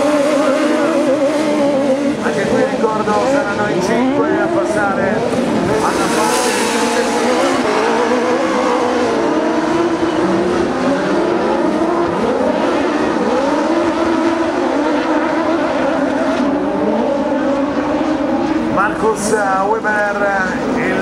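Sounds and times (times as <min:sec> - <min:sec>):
racing buggy engines revving: 0:00.0 - 0:21.0.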